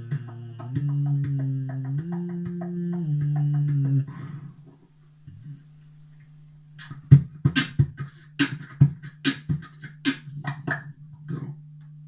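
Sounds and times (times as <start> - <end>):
beatboxing into microphone: 0.0 - 12.0
low hum: 0.0 - 12.0.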